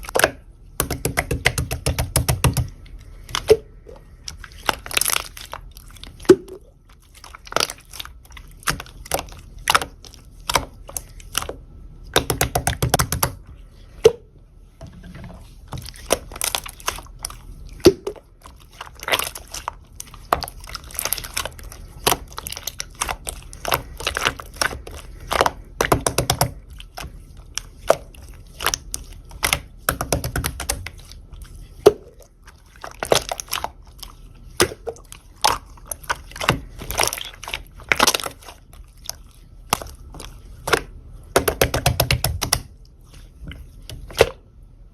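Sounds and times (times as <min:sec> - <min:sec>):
slime squishing by hand: 0:00.0 - 0:44.9.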